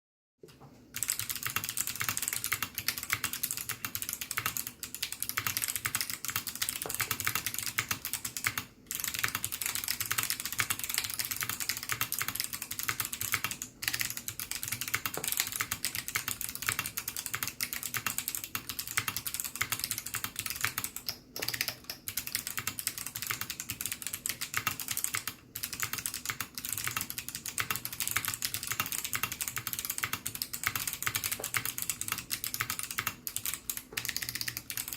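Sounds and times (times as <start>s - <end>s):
fast typing on mechanical keyboard: 0.9s - 34.9s.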